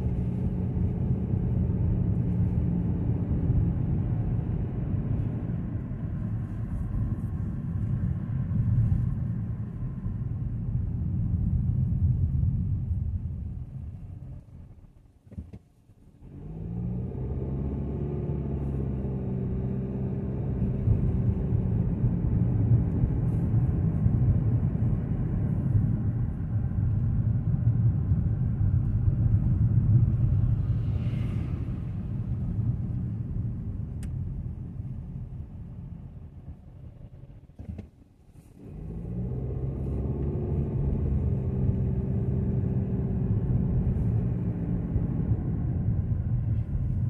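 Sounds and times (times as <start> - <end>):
car engine from inside cabin: 0.0 - 47.0.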